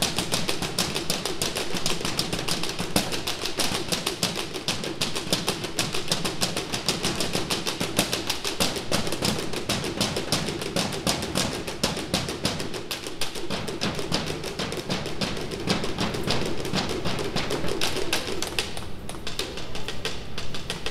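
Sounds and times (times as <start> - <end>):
rapid percussive clicking: 0.0 - 20.9.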